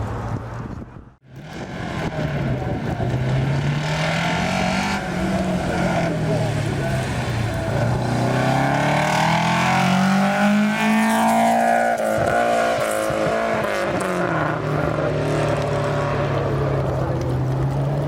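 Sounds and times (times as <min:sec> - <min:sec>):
rally car engine accelerating: 0:01.3 - 0:18.0.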